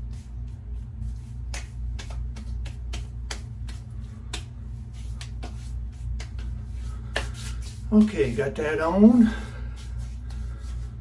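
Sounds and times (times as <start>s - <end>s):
hands patting face: 0.0s - 11.0s
steady low hum: 0.0s - 11.0s.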